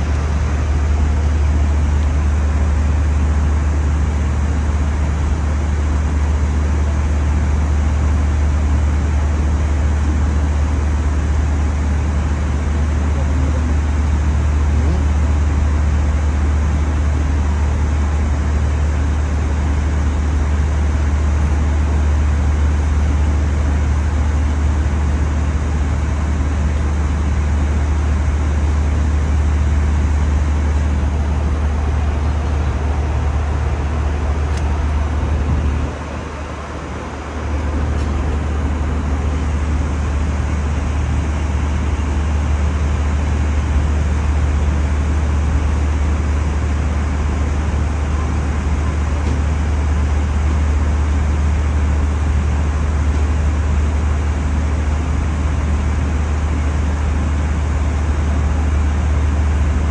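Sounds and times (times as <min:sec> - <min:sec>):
airliner cabin drone: 0:00.0 - 0:59.9.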